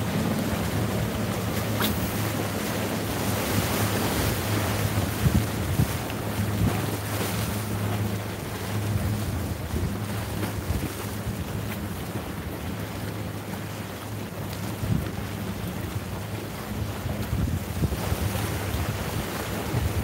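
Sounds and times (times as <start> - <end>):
wind buffeting microphone: 0.0 - 13.4, 14.4 - 20.0
motorboat engines humming: 0.0 - 20.0
waves washing on jetty: 0.0 - 20.0.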